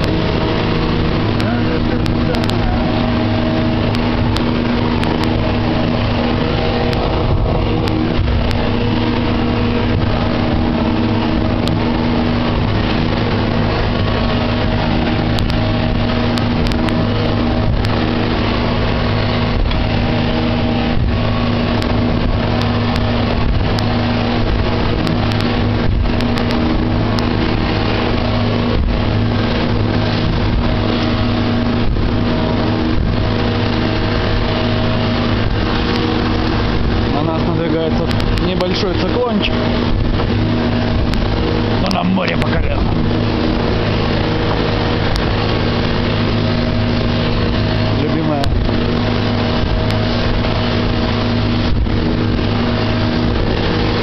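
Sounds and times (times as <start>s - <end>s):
boat engine running steadily: 0.0s - 54.0s.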